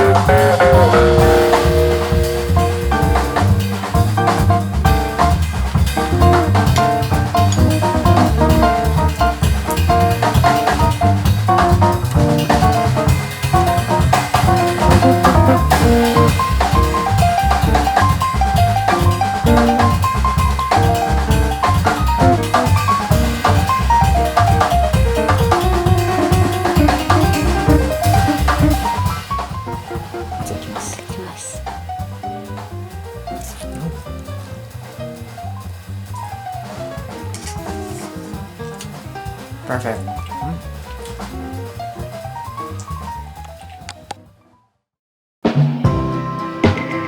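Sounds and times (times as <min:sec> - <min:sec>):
jazzy instrumental music: 0:00.0 - 0:44.4, 0:45.4 - 0:47.0.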